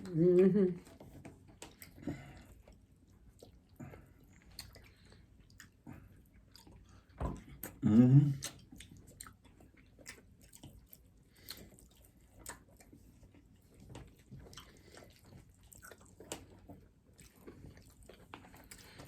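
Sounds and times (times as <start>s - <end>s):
soft wet chewing: 0.0s - 19.0s.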